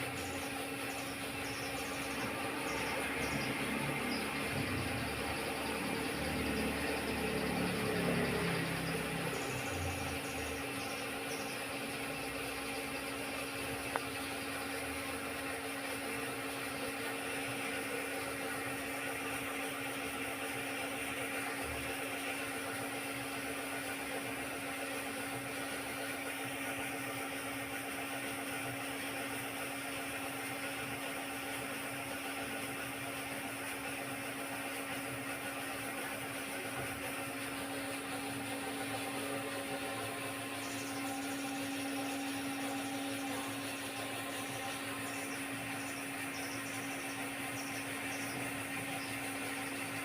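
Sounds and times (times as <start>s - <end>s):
electric cutting machine motor hum: 0.0s - 27.7s, 33.2s - 50.0s.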